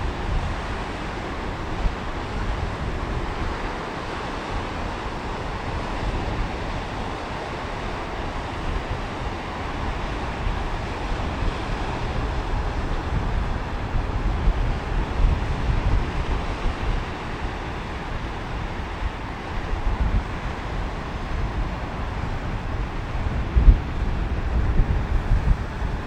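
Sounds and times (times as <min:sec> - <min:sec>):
sea waves washing on beach: 0:00.0 - 0:26.0
wind buffeting microphone: 0:00.0 - 0:26.0.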